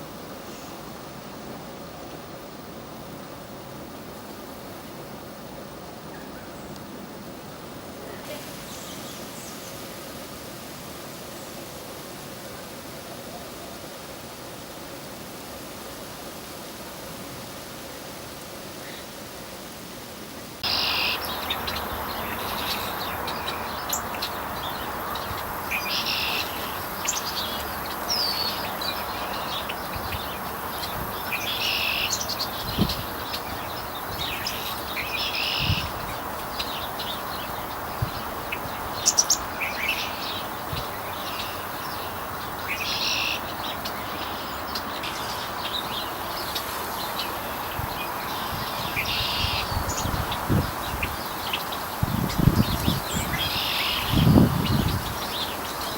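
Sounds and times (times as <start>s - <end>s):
background hiss: 0.0s - 55.9s.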